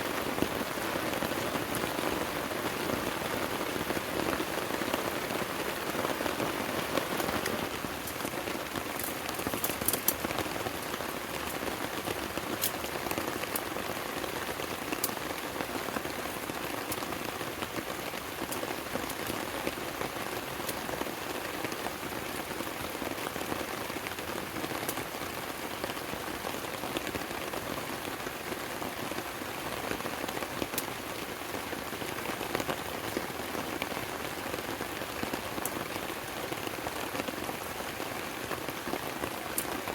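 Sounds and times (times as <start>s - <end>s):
raindrops ticking: 0.0s - 28.7s, 29.4s - 39.9s
steady rain falling: 0.0s - 39.9s.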